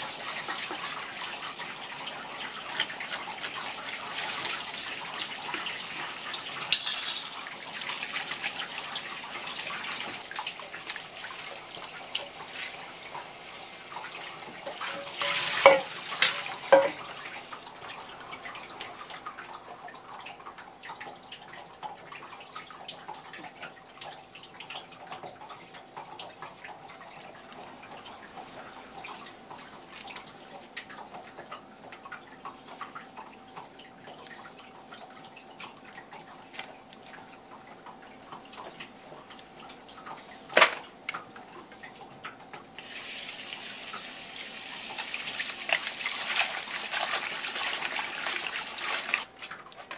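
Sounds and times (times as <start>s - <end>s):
faint water drips: 0.0s - 43.0s
tap water running: 0.0s - 49.9s.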